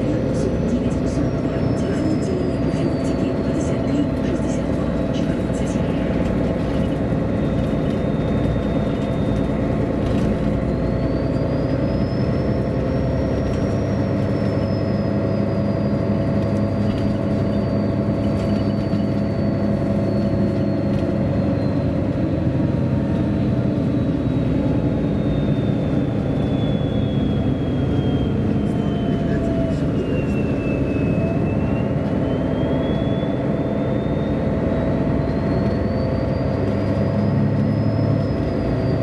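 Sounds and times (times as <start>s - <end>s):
bus engine running: 0.0s - 39.0s.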